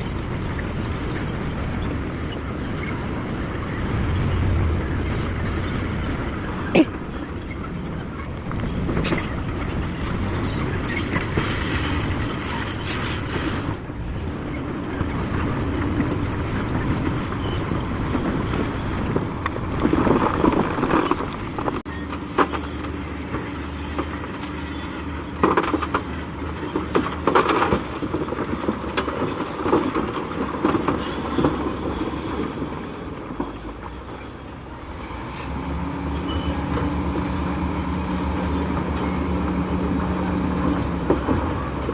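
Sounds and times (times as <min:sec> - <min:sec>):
metallic squealing and clanking: 0:00.0 - 0:18.8, 0:19.4 - 0:40.6
diesel engine running: 0:00.0 - 0:41.9.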